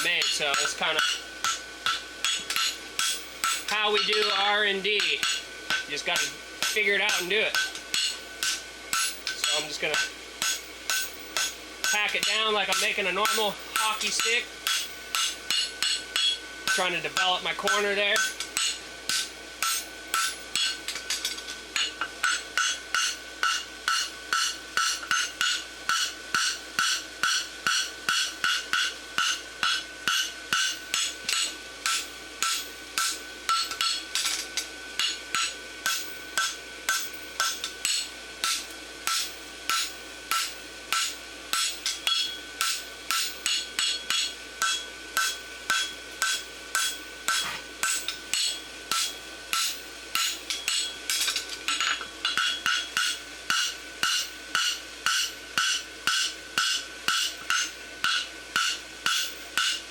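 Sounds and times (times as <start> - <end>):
anvil ringing: 0.0 - 34.4, 35.0 - 59.8
hammer striking steel on anvil: 0.0 - 59.8.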